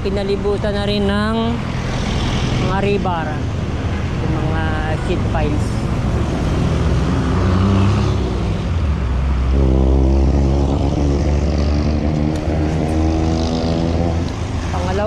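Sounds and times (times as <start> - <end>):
road traffic rumble: 0.0 - 15.0
vehicle engine drone: 0.0 - 15.0.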